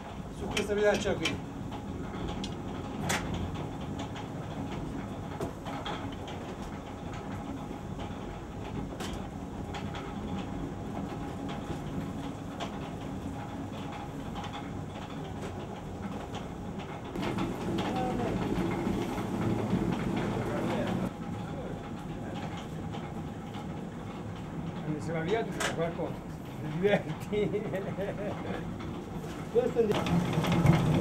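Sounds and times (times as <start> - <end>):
stone mill rumbling: 0.0 - 31.0.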